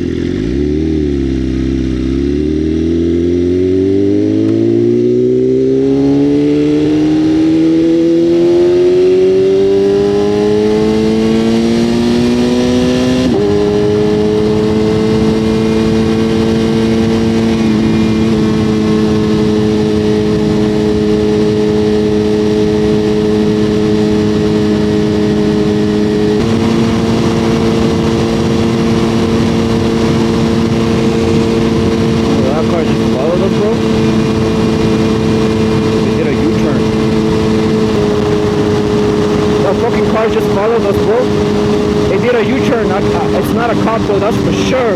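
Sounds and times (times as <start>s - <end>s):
motorcycle engine revving: 0.0s - 44.9s
wind rush on microphone: 3.7s - 44.9s.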